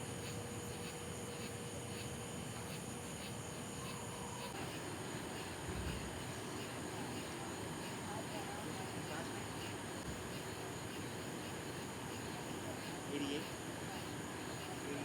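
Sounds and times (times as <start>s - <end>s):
insects chirping faintly: 0.0s - 15.0s
outdoor background noise: 0.0s - 15.0s
thin steady hum: 0.0s - 15.0s.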